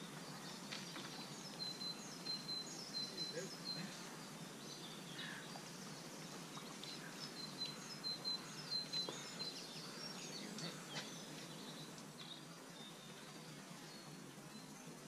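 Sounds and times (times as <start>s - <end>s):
outdoor background hiss: 0.0s - 15.0s
small birds chirping: 0.0s - 15.0s.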